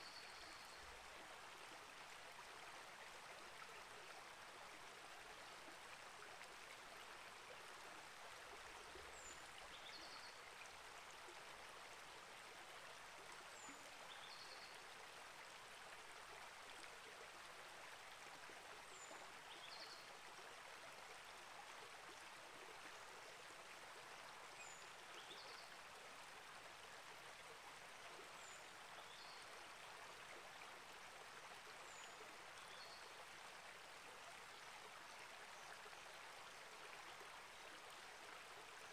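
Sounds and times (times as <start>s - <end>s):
creek flowing: 0.0s - 38.9s.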